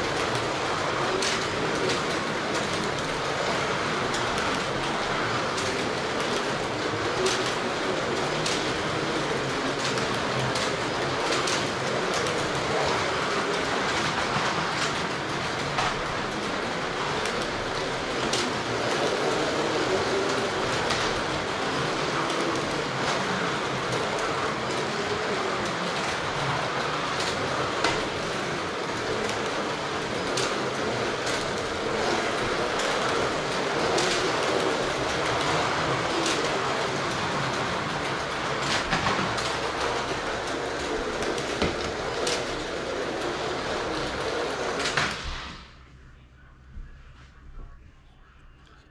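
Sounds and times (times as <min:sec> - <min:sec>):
slot cars whirring and rattling: 0:00.0 - 0:45.9.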